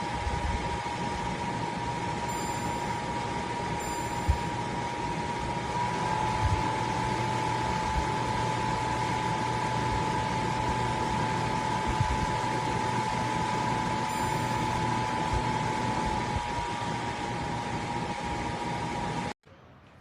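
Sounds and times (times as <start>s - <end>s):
air conditioner fan running: 0.0s - 19.4s.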